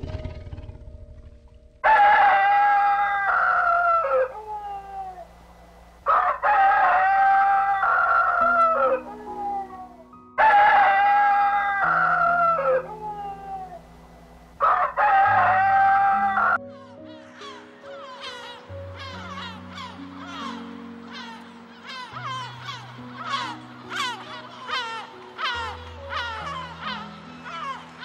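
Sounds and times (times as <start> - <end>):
rooster crowing: 1.8 - 5.4, 6.0 - 13.9, 14.6 - 16.6, 17.3 - 28.0.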